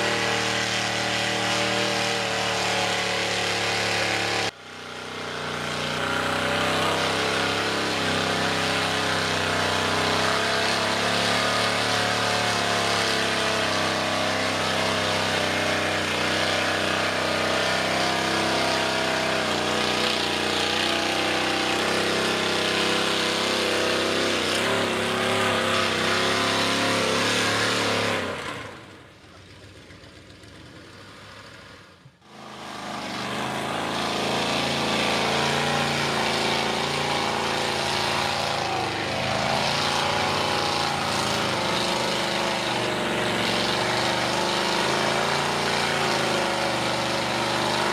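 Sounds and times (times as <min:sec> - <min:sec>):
truck engine revving loud: 0:00.0 - 0:29.1, 0:32.2 - 0:47.9.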